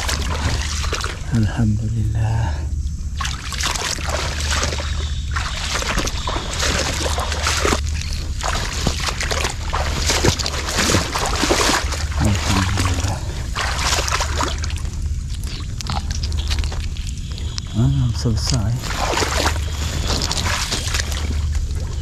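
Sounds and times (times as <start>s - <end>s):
water sloshing in a stream: 0.0s - 1.7s, 3.0s - 22.0s
steady low rumble: 0.0s - 22.0s.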